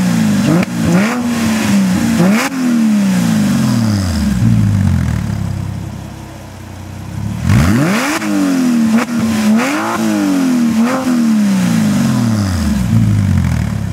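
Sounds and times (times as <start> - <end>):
car engine accelerating hard: 0.0 - 13.9.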